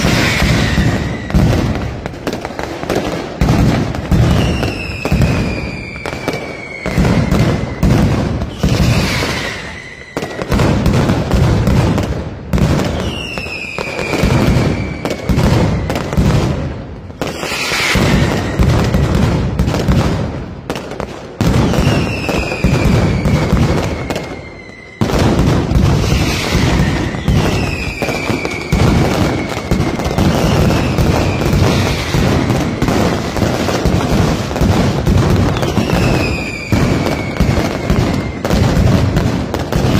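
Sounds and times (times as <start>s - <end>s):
firecrackers banging: 0.0s - 39.9s
whistling fireworks: 0.0s - 39.9s.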